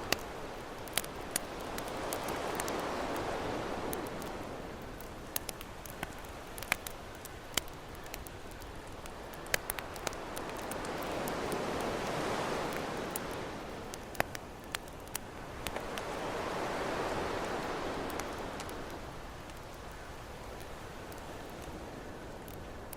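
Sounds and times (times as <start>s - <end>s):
campfire crackling and popping: 0.0s - 22.9s
ocean waves: 0.0s - 22.9s.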